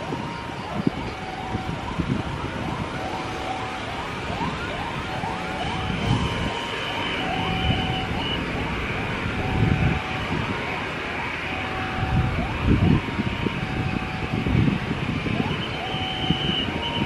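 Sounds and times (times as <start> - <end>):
emergency siren yelping: 0.0 - 17.0
road traffic rumble: 0.0 - 17.0.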